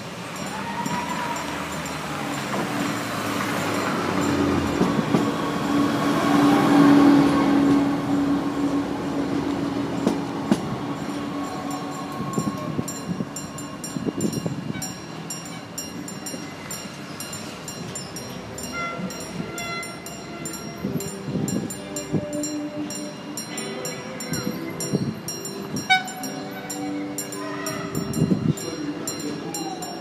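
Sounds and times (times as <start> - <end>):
rail rumble: 0.0 - 30.0
train engine note: 0.0 - 30.0.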